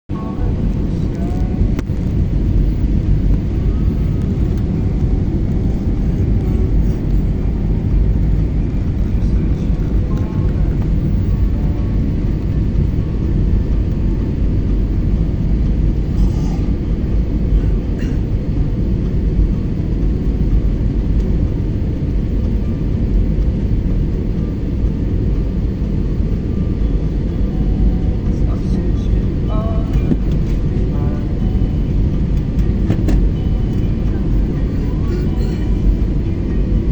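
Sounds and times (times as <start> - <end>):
airliner cabin rumble: 0.1 - 36.9.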